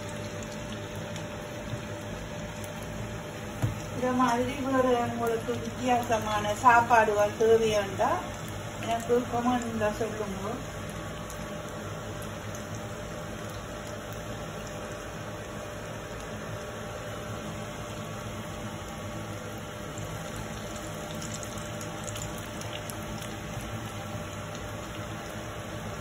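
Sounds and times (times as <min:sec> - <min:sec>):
food deep-frying in hot oil: 0:00.0 - 0:26.0.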